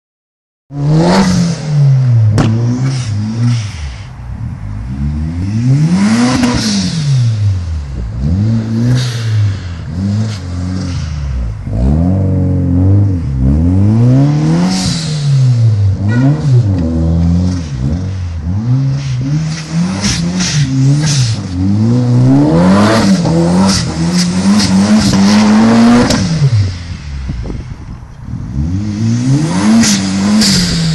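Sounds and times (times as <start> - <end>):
car engine revving: 0.7 - 30.9.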